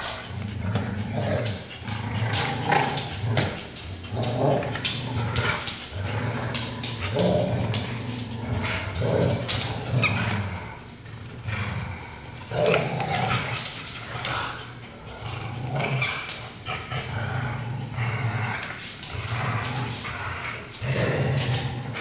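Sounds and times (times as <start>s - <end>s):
dogs play-growling: 0.0s - 22.0s.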